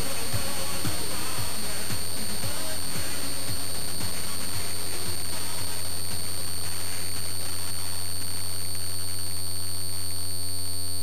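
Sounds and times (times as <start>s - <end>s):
high-pitched whine: 0.0s - 11.0s
radio hiss: 0.0s - 11.0s
radio signal buzz: 0.0s - 11.0s.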